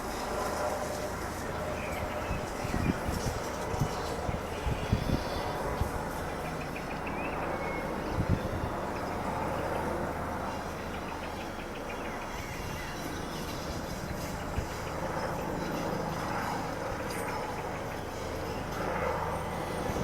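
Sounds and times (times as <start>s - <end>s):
helicopter rotor drone: 0.0s - 20.0s.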